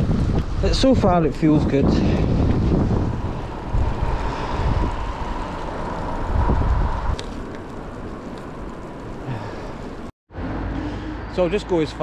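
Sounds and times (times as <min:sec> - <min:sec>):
wind buffeting microphone: 0:00.0 - 0:10.1
road noise: 0:00.0 - 0:12.0.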